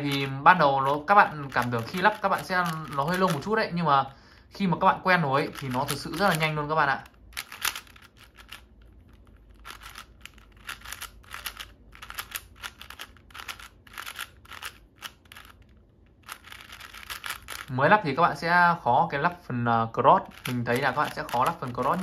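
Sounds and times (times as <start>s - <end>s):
puzzle cube clicking: 0.0s - 3.6s, 5.4s - 17.7s, 20.2s - 22.0s.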